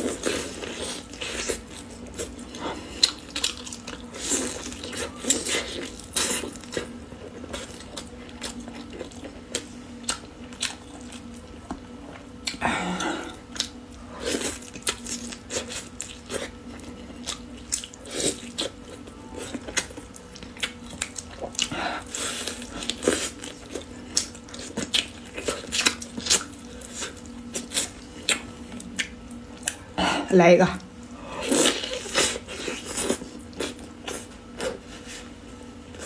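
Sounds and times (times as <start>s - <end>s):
person chewing meat: 0.0s - 30.0s, 31.0s - 36.0s
faint steady hum: 0.0s - 36.0s.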